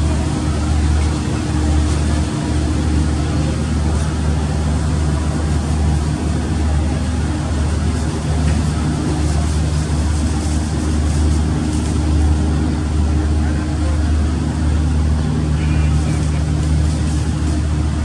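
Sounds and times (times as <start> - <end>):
ship engines droning: 0.0 - 18.0.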